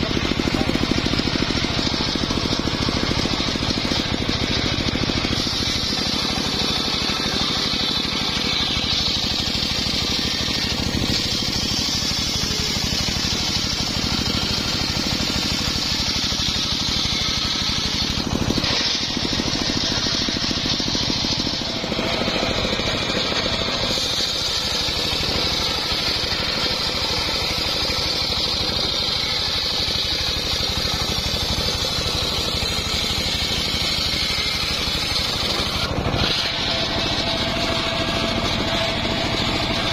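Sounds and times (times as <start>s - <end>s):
circular saw blade cutting log: 0.0s - 39.9s
sawmill motor drone: 0.0s - 39.9s.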